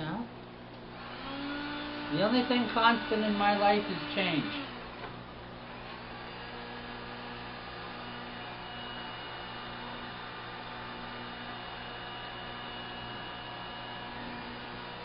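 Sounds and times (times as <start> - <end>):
electrical hum of aquarium pumps: 0.0 - 15.0.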